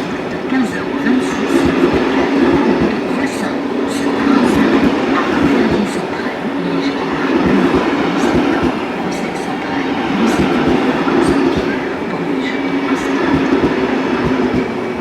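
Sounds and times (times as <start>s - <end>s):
low knocks from wheels: 0.0s - 15.0s
train running on rails: 0.0s - 15.0s
wavering hum: 0.0s - 15.0s.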